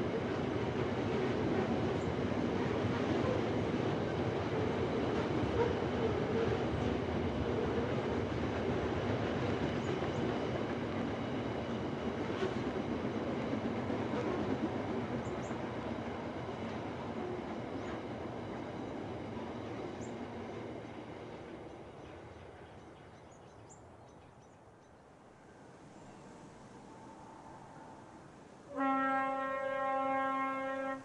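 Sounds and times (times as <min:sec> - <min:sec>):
freight train rolling past: 0:00.0 - 0:23.3, 0:25.3 - 0:31.0.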